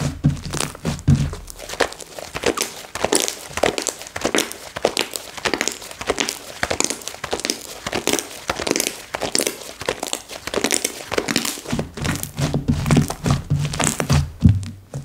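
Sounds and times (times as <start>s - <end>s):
slime crackling and popping: 0.0s - 14.7s.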